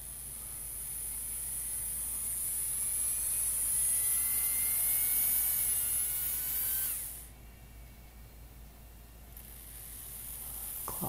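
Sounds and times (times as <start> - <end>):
small electric motor whining: 0.0 - 8.5, 9.1 - 11.0.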